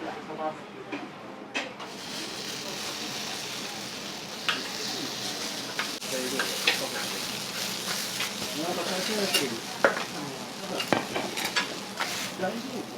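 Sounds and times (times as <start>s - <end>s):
food sizzling on a griddle: 1.8s - 12.9s.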